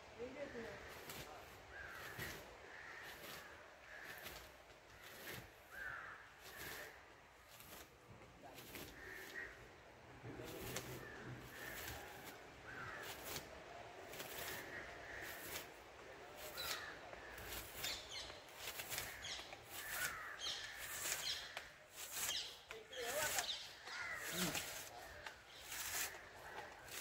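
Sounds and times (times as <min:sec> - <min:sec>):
birds calling: 0:00.1 - 0:27.0.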